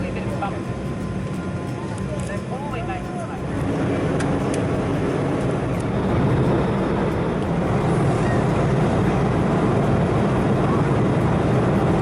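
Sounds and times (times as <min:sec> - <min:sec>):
jet engines in cabin: 0:00.1 - 0:12.0.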